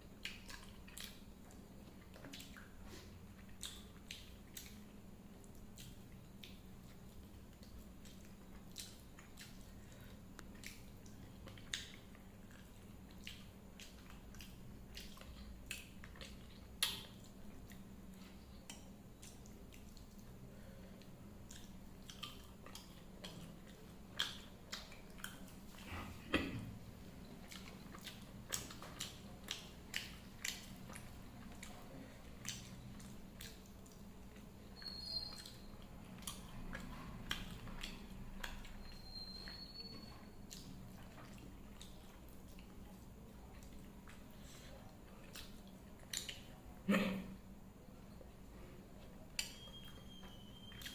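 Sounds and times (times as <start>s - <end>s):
wet chewing and lip smacks: 0.0s - 25.9s, 27.2s - 46.6s, 49.0s - 50.9s
steady low hum: 0.0s - 50.9s.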